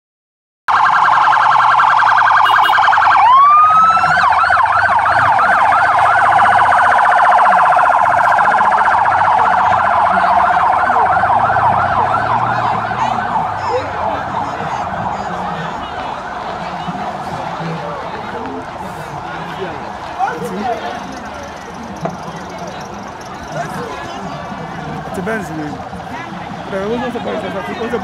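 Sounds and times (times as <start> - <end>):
electronic vehicle siren: 0.7 - 18.8, 20.0 - 28.0.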